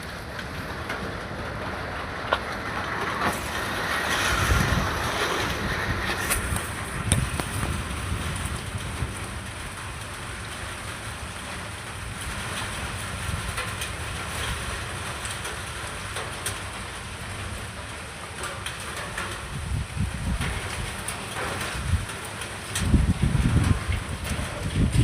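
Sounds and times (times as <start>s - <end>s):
steady rain falling: 0.0s - 25.0s
wind rumble on microphone: 0.0s - 25.0s.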